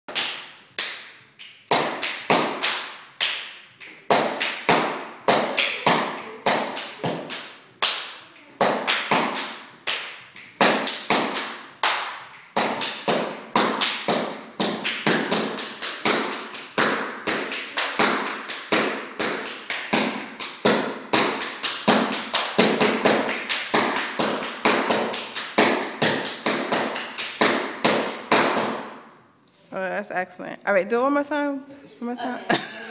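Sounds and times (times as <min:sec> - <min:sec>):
hand claps: 0:00.1 - 0:28.8.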